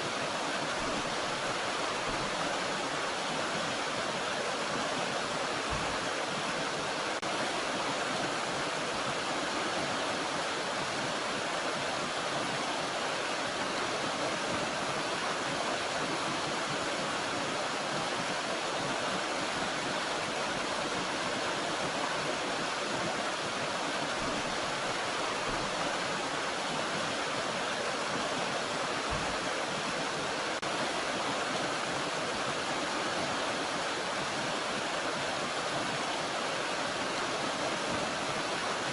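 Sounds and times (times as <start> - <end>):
water rushing in stream and waterfall: 0.0 - 38.9.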